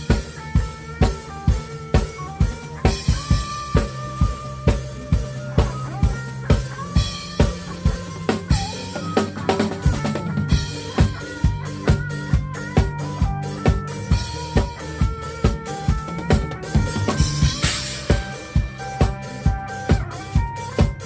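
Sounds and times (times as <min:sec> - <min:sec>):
drum kit beat: 0:00.0 - 0:21.0
synth backing track: 0:00.0 - 0:21.0.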